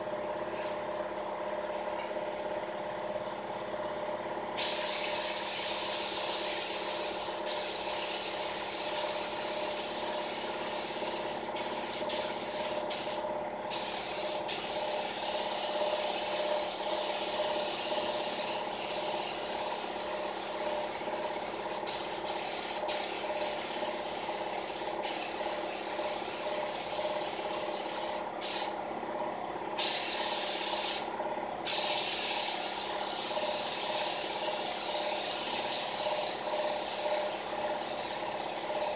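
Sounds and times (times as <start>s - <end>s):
steady hum: 0.0s - 38.9s
paint spray gun hissing: 4.6s - 20.6s, 21.6s - 28.8s, 29.8s - 38.9s.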